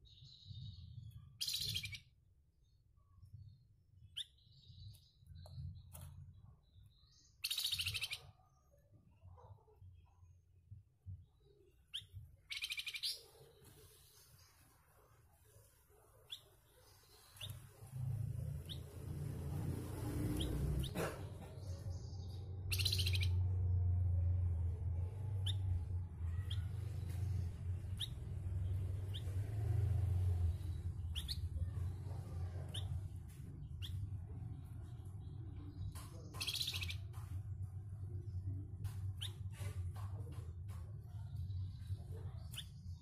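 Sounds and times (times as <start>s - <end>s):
songbird chirping: 0.0s - 43.0s.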